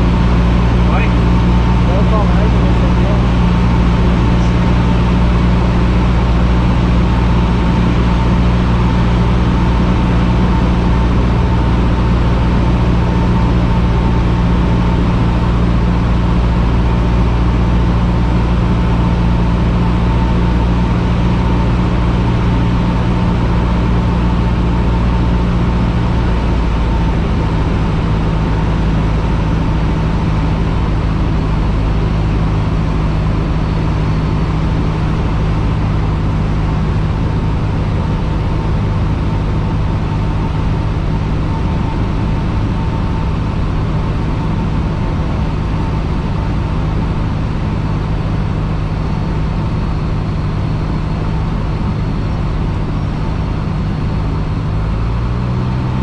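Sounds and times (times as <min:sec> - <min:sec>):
light aircraft engine droning: 0:00.0 - 0:56.0.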